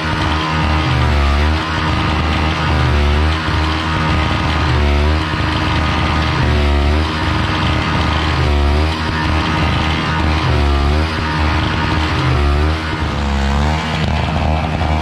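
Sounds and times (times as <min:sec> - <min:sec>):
rock music with heavy bass: 0:00.0 - 0:15.0.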